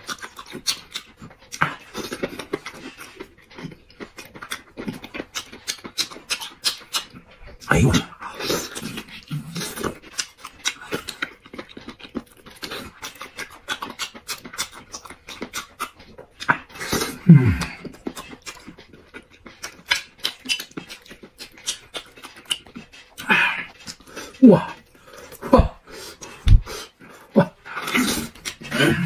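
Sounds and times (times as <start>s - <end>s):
person chewing and lip-smacking: 0.0s - 29.0s.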